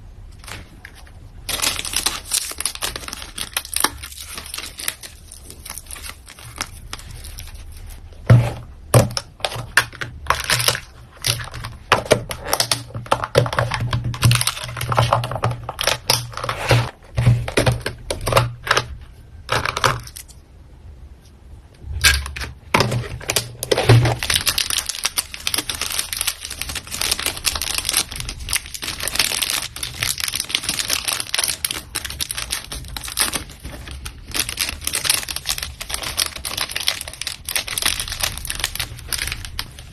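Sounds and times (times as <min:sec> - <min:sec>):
plastic packaging crinkling: 0:00.3 - 0:20.4, 0:21.9 - 0:39.9
packaging tearing: 0:00.4 - 0:08.0, 0:09.1 - 0:18.9, 0:22.8 - 0:39.9.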